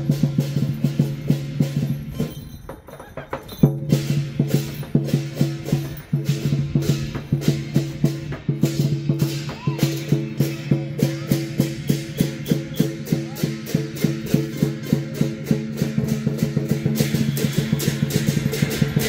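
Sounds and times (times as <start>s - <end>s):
large drum beating: 0.0s - 2.4s, 3.5s - 19.0s
cymbals crashing: 3.6s - 19.0s.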